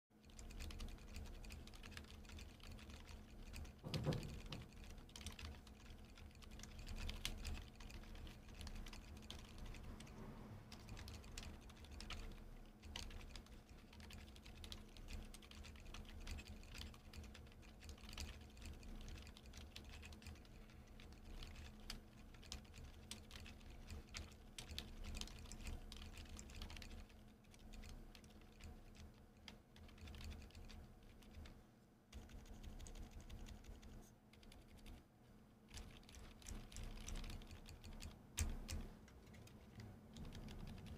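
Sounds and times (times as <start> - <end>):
soft keyboard typing: 0.2 - 40.9.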